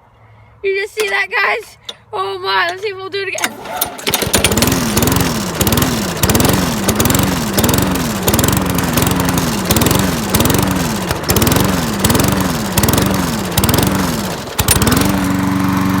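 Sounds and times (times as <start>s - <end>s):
lawn mower engine surging: 1.8s - 16.0s.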